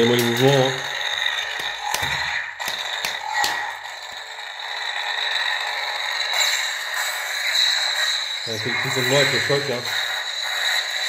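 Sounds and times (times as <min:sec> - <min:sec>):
crackling lightsaber hum: 0:00.0 - 0:11.0.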